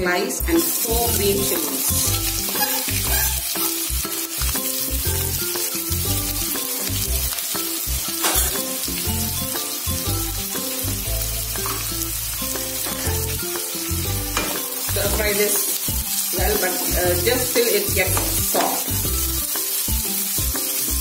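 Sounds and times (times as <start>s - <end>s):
onions sizzling in hot oil: 0.0s - 21.0s
background music with bass: 0.9s - 21.0s.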